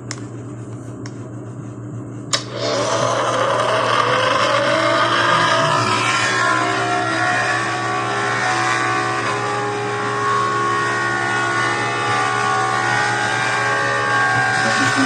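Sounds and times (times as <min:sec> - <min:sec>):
outdoor warning siren: 0:02.6 - 0:15.0.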